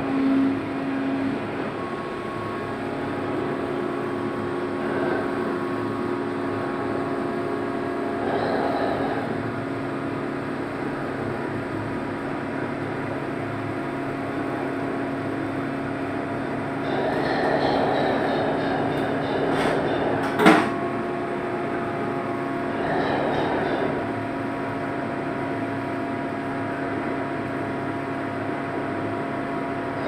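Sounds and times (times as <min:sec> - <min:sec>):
diesel engines droning: 0:00.0 - 0:26.6.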